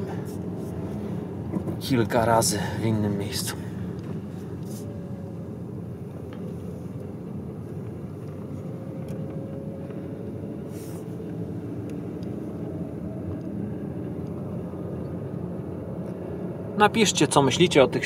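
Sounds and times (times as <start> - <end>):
faint steady whine: 0.0 - 18.0
low engine hum: 0.0 - 18.0
road and tyre rumble: 0.0 - 18.0.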